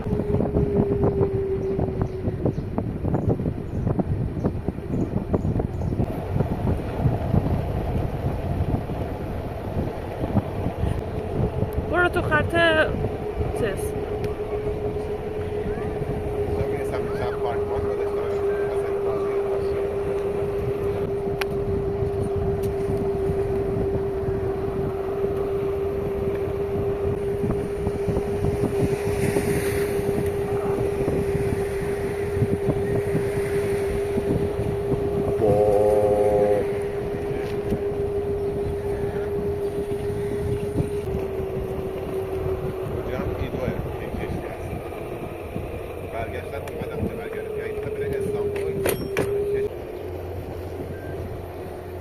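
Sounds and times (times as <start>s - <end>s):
boat engine humming: 0.0s - 52.0s
wind buffeting microphone: 0.0s - 52.0s.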